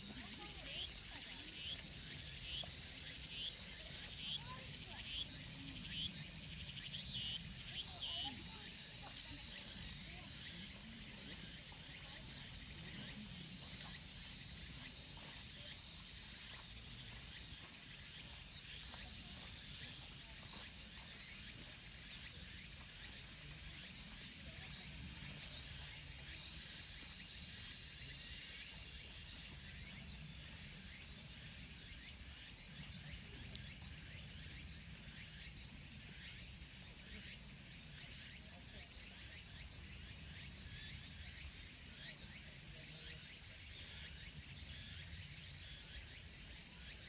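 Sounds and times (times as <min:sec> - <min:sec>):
insects buzzing: 0:00.0 - 0:47.0.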